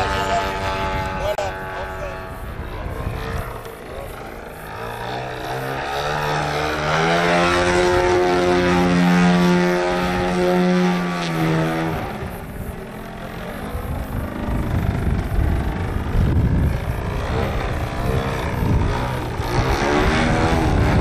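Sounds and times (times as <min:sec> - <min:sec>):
model airplane engine and propeller: 0:00.0 - 0:21.0.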